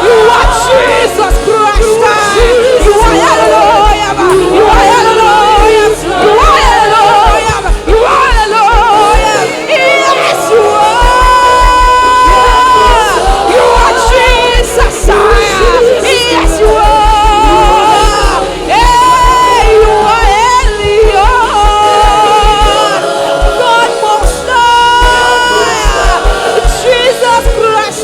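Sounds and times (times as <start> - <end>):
band with low beat: 0.0 - 28.0.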